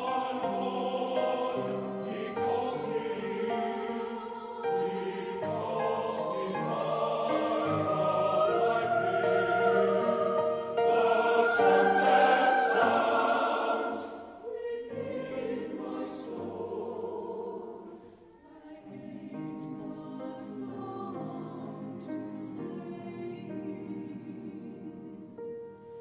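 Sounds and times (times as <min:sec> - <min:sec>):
mixed choir singing: 0:00.0 - 0:26.0.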